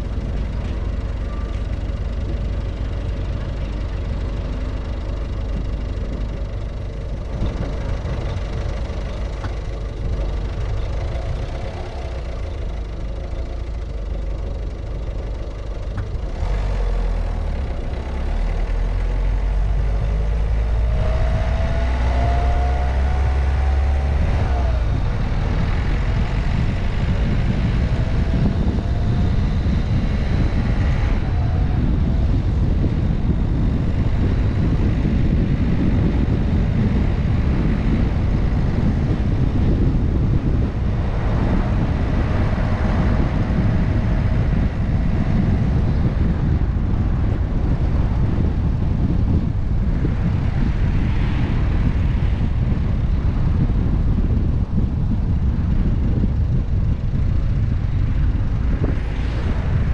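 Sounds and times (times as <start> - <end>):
car engine and road rumble: 0.0 - 59.9
rising acceleration whine: 0.0 - 59.9.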